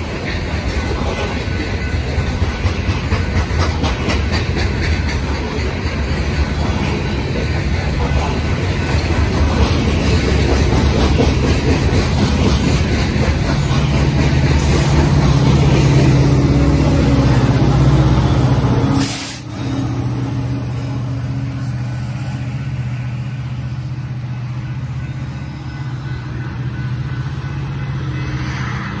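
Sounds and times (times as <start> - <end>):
diesel locomotive engine drone: 0.0 - 29.0
train cars rumbling over rails: 0.0 - 29.0.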